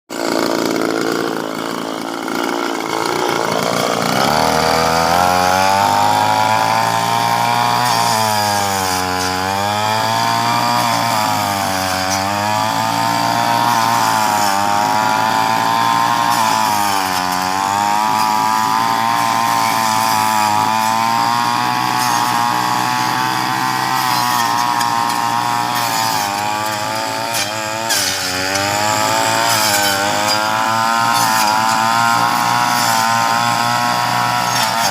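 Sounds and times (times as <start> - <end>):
chainsaw cutting branches: 0.1 - 34.9.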